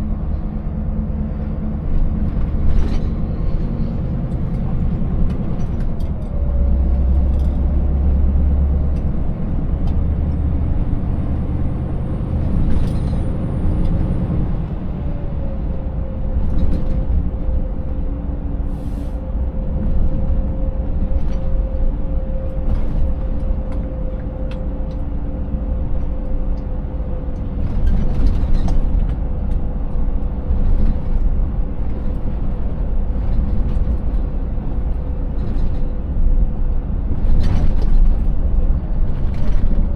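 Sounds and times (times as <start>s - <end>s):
diesel truck engine running: 0.0s - 39.9s
whine over engine: 0.0s - 39.9s.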